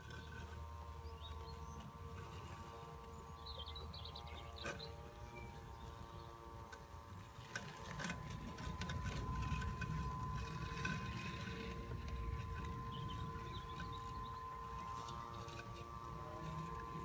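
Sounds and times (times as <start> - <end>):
robotic lawnmower motor whine: 0.0 - 17.0.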